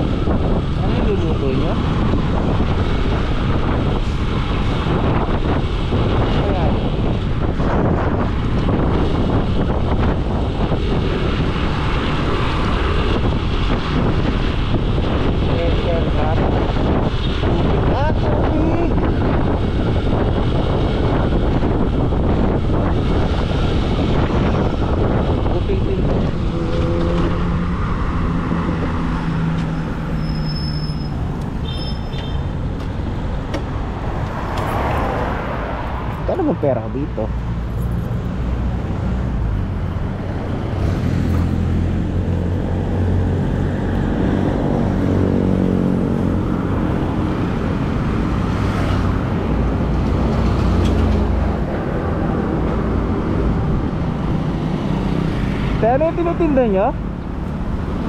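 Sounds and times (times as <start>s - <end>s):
low steady engine drone: 0.0s - 55.1s
vehicle rumbling on road: 0.0s - 58.0s
wind buffeting microphone: 0.0s - 58.0s.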